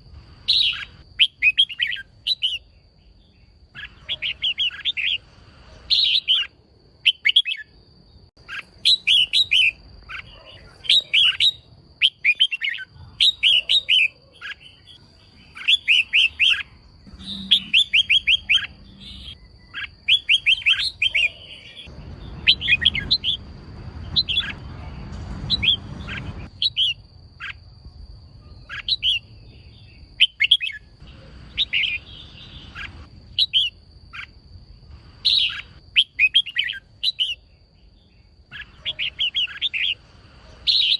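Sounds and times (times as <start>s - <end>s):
bird sharp chirps: 0.4s - 27.6s, 28.3s - 34.4s, 35.2s - 40.9s.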